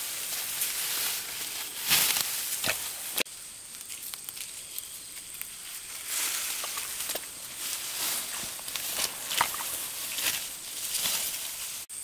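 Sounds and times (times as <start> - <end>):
rice stalks rustling and crunching: 0.0 - 12.0.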